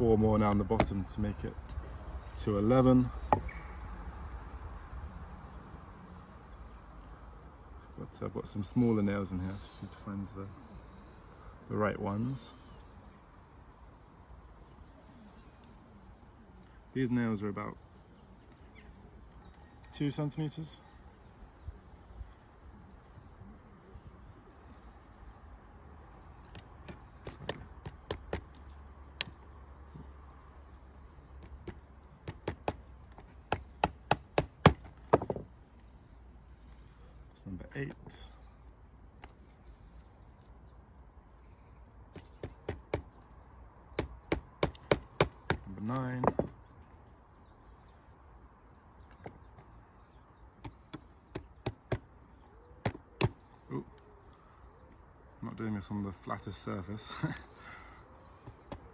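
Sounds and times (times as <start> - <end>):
birds chirping faintly: 0.0 - 58.9.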